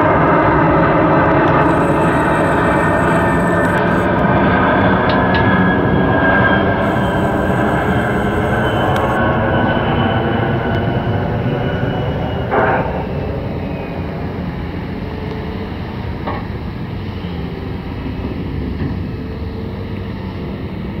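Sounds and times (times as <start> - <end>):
jet engines rumbling: 0.0 - 18.9.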